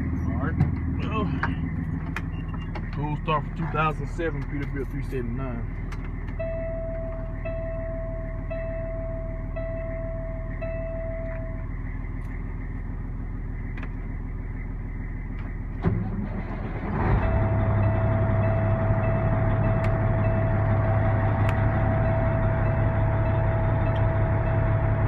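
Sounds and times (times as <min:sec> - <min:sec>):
diesel engine cranking: 0:00.0 - 0:25.0
diesel engine idling: 0:00.0 - 0:25.0.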